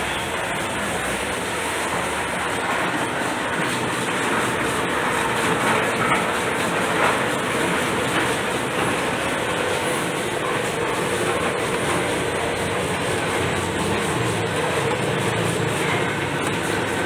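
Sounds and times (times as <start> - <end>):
nut peeling machine clatter: 0.1 - 17.0.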